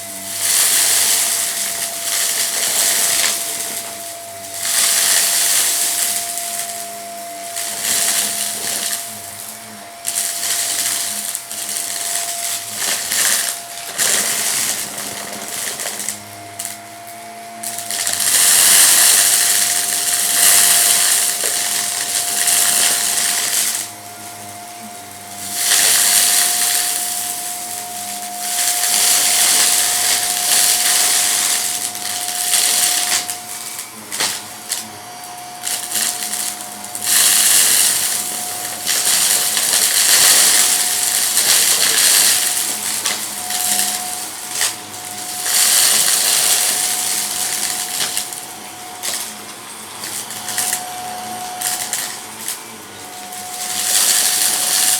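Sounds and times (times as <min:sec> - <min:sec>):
debris rattling in vacuum: 0:00.0 - 0:54.9
vacuum cleaner motor whine: 0:00.0 - 0:54.9.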